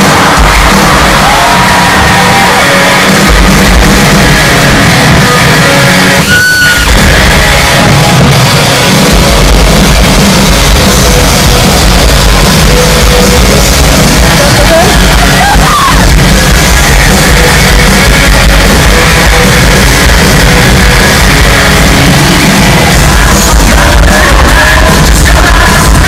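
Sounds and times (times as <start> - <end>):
loud hard rock music: 0.0 - 26.0.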